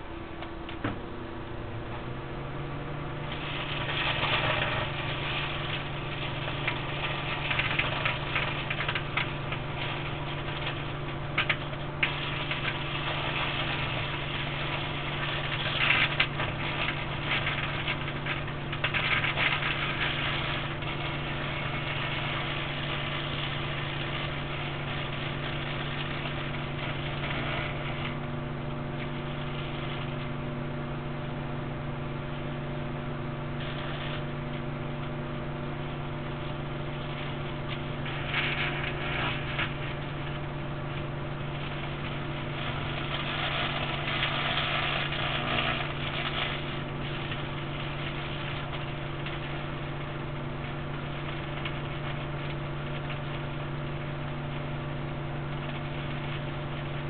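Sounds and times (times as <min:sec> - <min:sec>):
high-voltage apparatus humming: 0:00.0 - 0:57.0
plasma arc crackling: 0:00.0 - 0:57.0.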